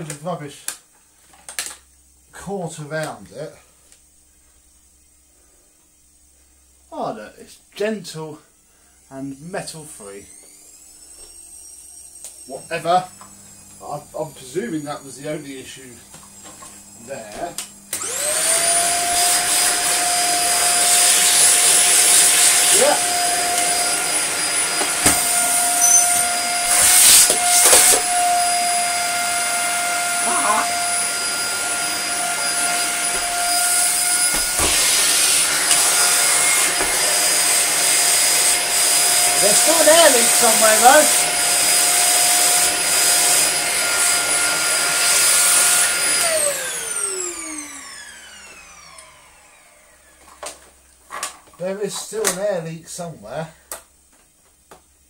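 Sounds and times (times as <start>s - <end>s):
vacuum cleaner running: 8.7s - 53.0s.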